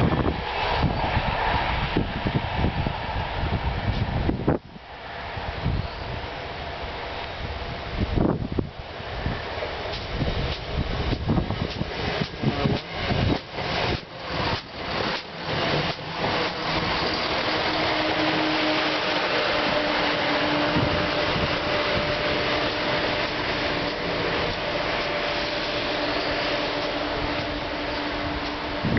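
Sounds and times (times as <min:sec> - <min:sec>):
diesel train engines droning: 0:00.0 - 0:28.9
wind buffeting microphone: 0:00.0 - 0:28.9.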